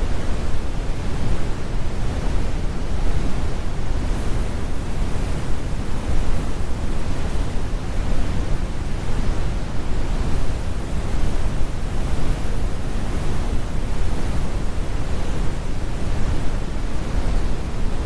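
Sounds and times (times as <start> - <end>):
brown noise rumbling hiss: 0.0 - 18.0.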